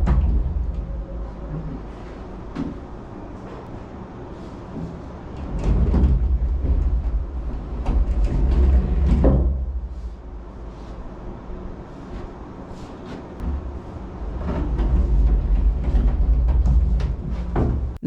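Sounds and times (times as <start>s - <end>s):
lift doors sliding and knocking: 0.0s - 10.6s, 13.0s - 18.0s.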